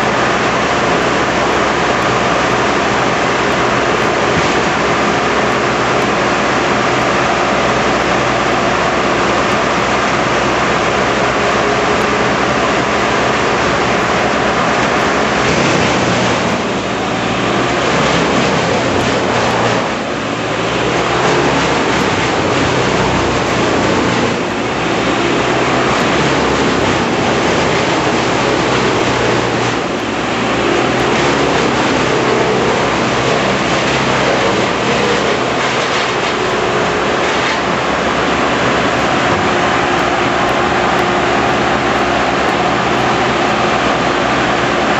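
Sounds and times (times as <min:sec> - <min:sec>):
heavy machinery running: 0:00.0 - 0:44.9.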